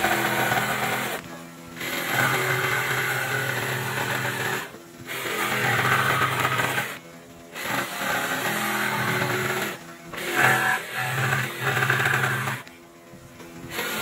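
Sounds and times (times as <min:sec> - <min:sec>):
jigsaw cutting wood: 0:00.0 - 0:12.7, 0:13.6 - 0:14.0.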